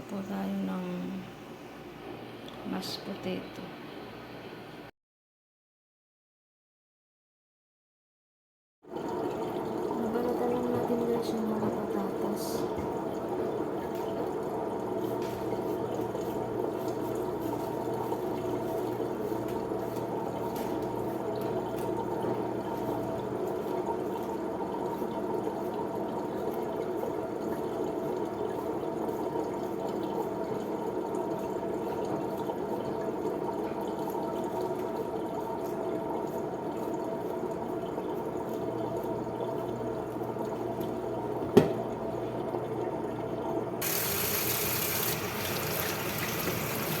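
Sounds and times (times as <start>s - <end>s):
tap water running into sink: 8.9s - 47.0s.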